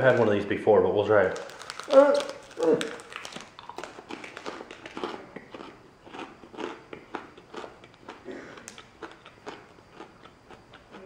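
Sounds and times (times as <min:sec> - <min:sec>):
chocolate bar crunching in mouth: 0:01.2 - 0:11.0.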